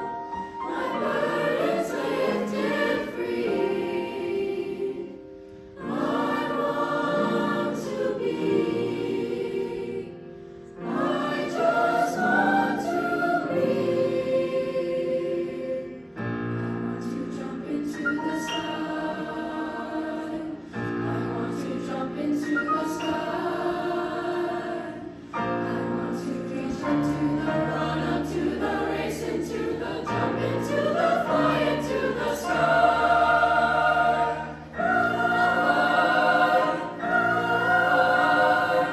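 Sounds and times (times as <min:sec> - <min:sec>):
choir singing in parts: 0:00.0 - 0:38.9.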